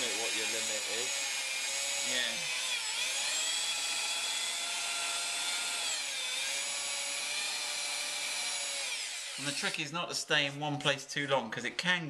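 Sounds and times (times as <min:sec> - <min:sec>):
electric drill whining: 0:00.0 - 0:09.8.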